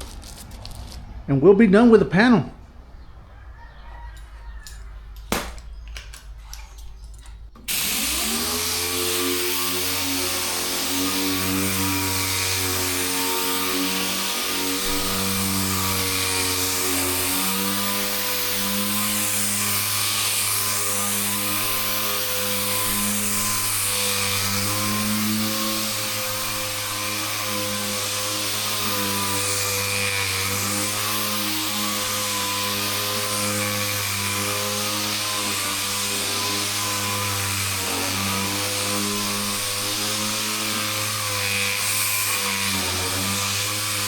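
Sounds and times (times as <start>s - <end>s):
orbital sander humming: 7.7s - 44.0s.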